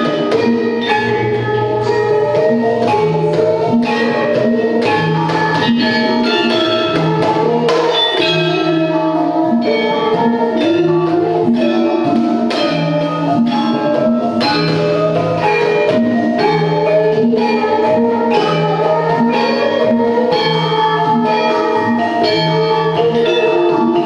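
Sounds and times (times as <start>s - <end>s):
gamelan metallophones struck: 0.0s - 24.0s
hand drum playing: 0.0s - 24.0s.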